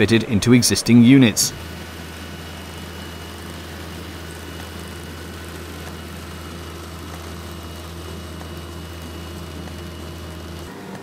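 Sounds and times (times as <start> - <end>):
loading machine engine droning: 0.0 - 11.0.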